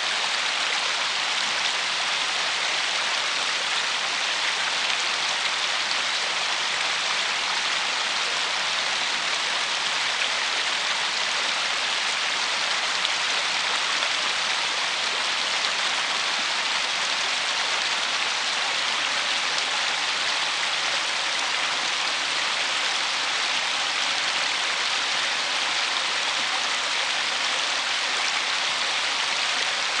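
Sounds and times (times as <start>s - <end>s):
river water rushing over stones: 0.0s - 30.0s.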